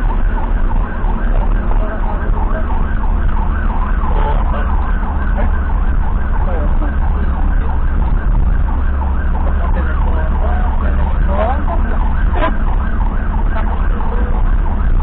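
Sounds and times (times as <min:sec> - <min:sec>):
siren yelping: 0:00.0 - 0:15.0
vehicle driving rumble: 0:00.0 - 0:15.0.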